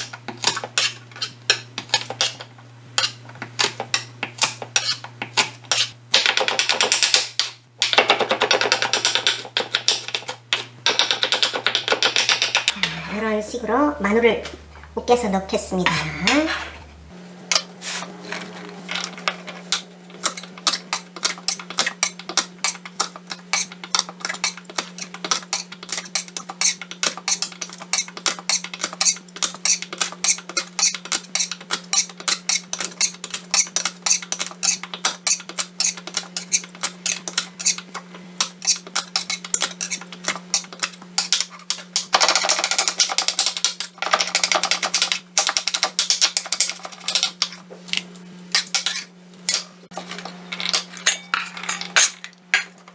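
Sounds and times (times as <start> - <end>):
steady low hum: 0.0 - 6.2, 8.9 - 52.9.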